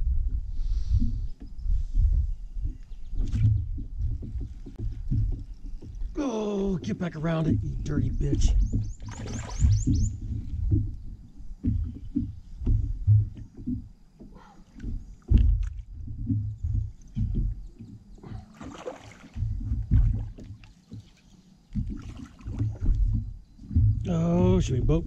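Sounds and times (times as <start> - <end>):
low knocks on a boat: 0.0 - 25.0.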